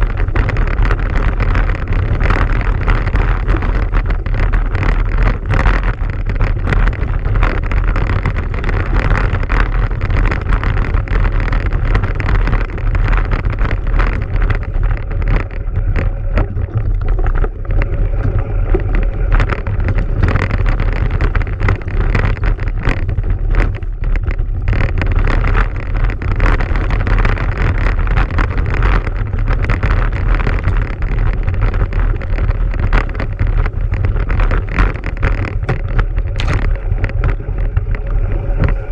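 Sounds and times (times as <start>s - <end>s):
vehicle rumble on stony track: 0.0s - 38.9s
wind rush on microphone: 0.0s - 38.9s.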